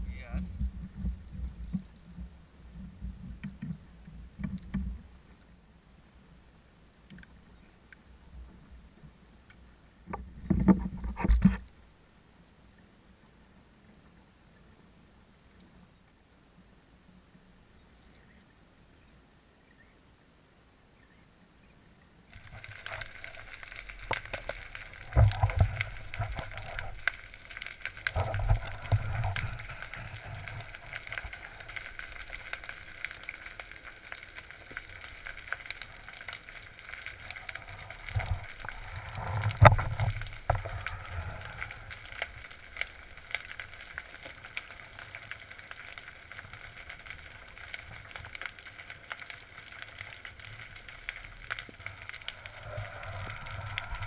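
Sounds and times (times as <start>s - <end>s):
muffled underwater water noise: 0.0s - 54.0s.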